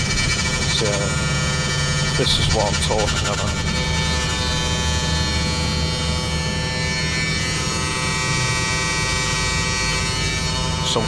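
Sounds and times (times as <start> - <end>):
electrical buzz drone: 0.0 - 11.0.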